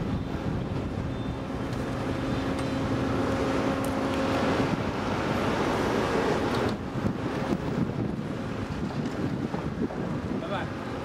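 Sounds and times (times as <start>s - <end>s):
engine hum with held tone: 0.0s - 10.1s
wind noise on microphone: 0.0s - 11.0s.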